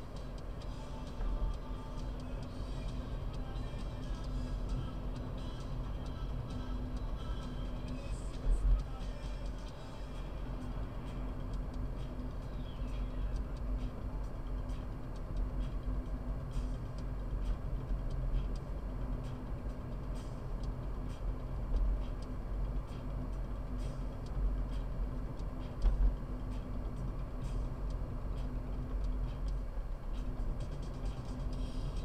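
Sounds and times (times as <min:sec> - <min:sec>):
car engine and tyre rumble: 0:00.0 - 0:32.0
faint irregular ticks: 0:00.1 - 0:32.0.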